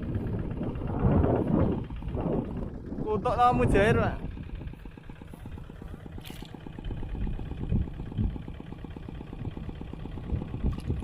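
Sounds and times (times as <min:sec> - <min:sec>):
hand tractor engine running: 0:00.0 - 0:11.0.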